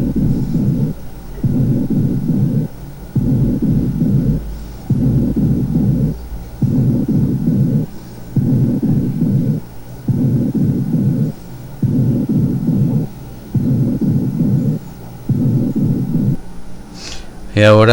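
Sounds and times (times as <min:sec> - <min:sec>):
muffled low bursts through stethoscope: 0:00.0 - 0:16.4.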